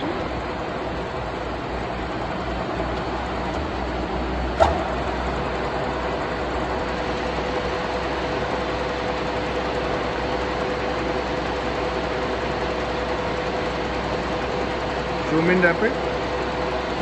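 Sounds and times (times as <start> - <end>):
constant machine whine: 0.0 - 17.0
milling machine humming: 0.0 - 17.0.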